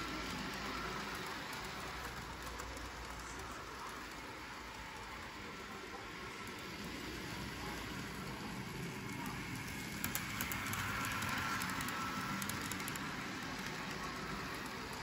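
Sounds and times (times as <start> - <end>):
toy electric train running: 0.0 - 15.0.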